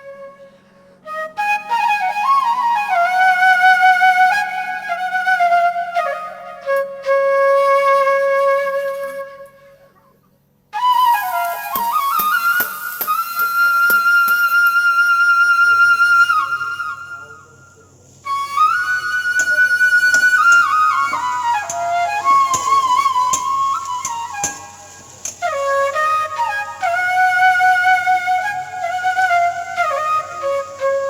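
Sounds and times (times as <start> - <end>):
slow flute melody: 0.0 - 31.0.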